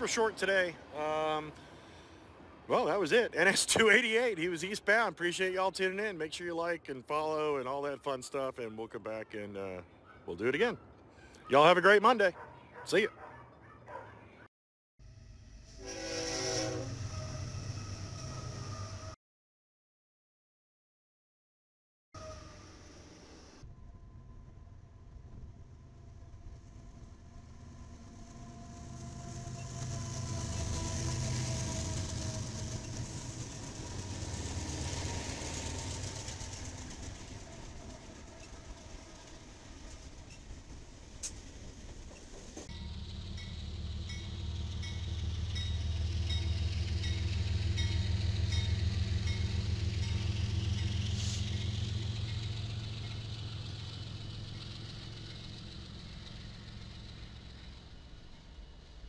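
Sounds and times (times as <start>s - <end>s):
diesel locomotives passing: 0.0s - 14.2s, 15.0s - 19.2s, 22.2s - 59.0s.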